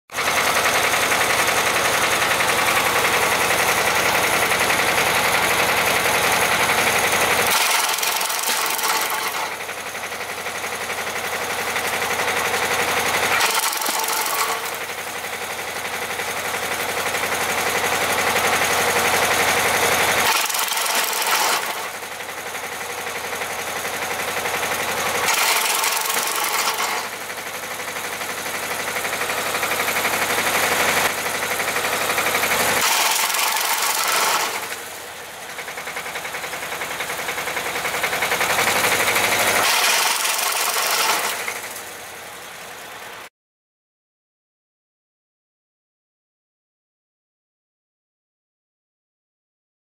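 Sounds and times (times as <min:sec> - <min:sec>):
tractor engine clattering: 0:00.1 - 0:43.2.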